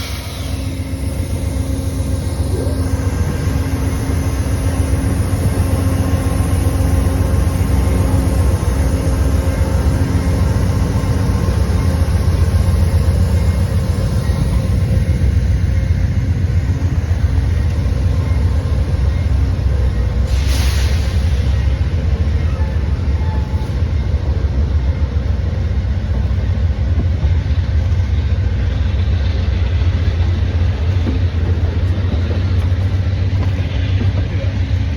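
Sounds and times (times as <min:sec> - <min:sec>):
diesel locomotive engine rumble: 0:00.0 - 0:34.9.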